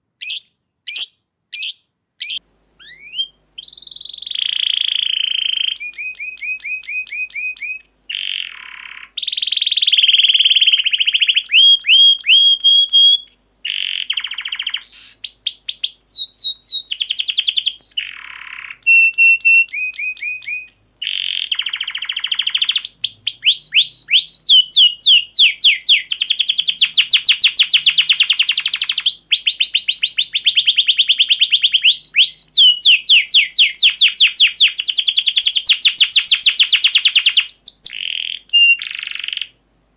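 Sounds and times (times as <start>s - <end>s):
canary singing trills: 0.2s - 39.6s.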